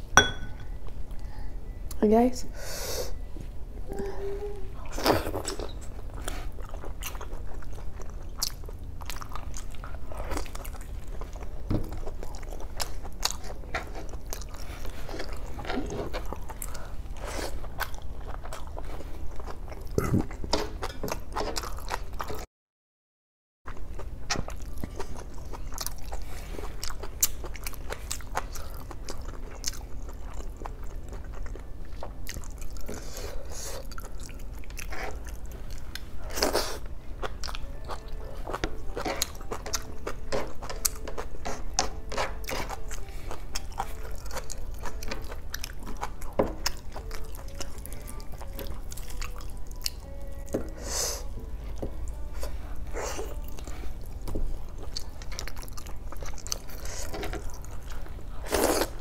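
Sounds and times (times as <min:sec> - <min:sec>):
chewing with wet smacks: 0:04.8 - 0:22.4, 0:23.7 - 0:50.6, 0:51.2 - 0:59.0.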